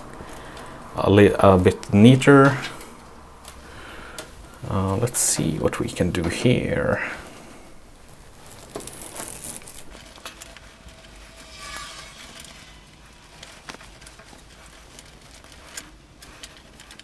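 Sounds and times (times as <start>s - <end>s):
cables rustling: 0.0s - 17.0s.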